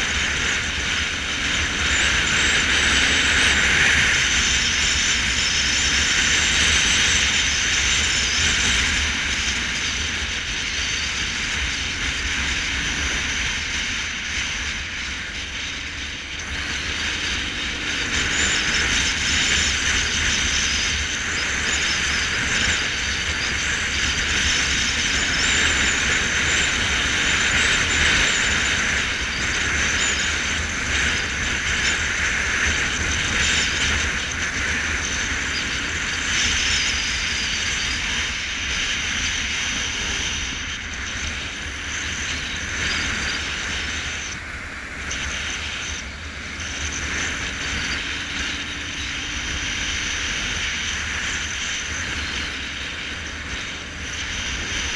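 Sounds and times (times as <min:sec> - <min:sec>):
road noise: 0:00.0 - 0:54.9
wind rush: 0:00.0 - 0:54.9.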